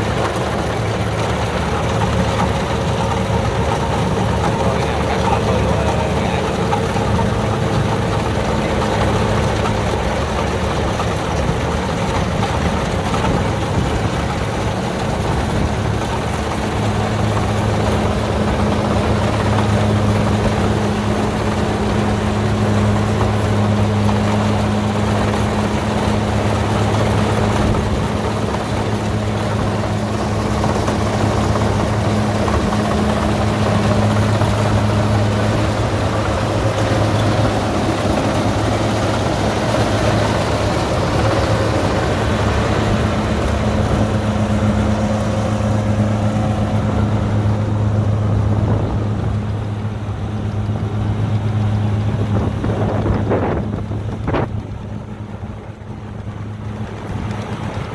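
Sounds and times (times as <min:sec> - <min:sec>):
diesel engine humming: 0:00.0 - 0:57.9
machinery rattling: 0:00.0 - 0:57.9.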